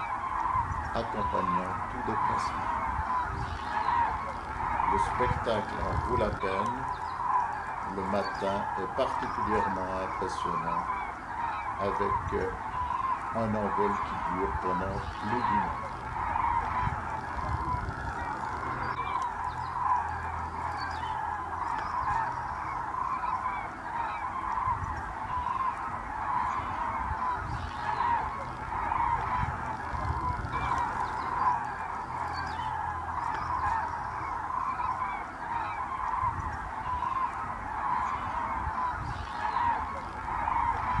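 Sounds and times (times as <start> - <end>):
flock of cranes calling: 0.0 - 41.0.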